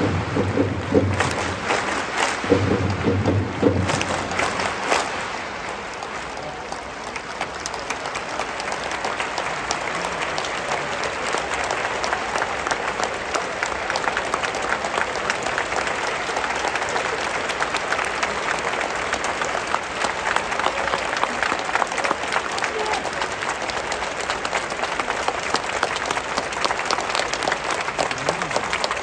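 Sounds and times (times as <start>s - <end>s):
crowd applauding: 0.0s - 29.0s.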